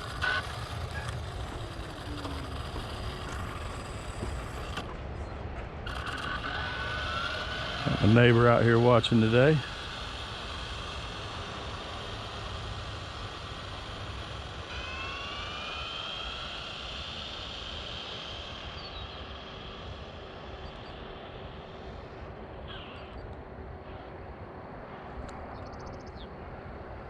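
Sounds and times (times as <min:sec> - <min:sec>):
distant high-pitched motor whine: 0:00.0 - 0:27.0
outdoor rumble: 0:00.0 - 0:27.0.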